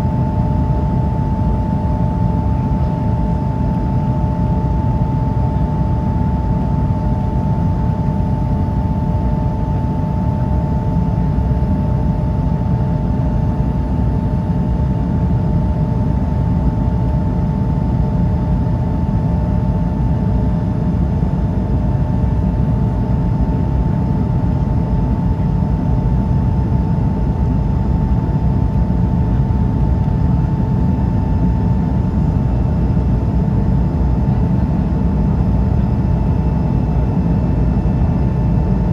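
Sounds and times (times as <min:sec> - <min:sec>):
airflow and jet engine roar: 0:00.0 - 0:38.9
constant high hum: 0:00.0 - 0:38.9.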